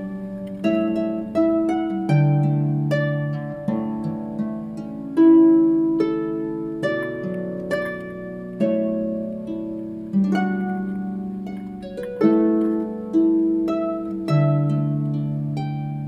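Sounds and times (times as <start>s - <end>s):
plucked string music: 0.0s - 16.0s.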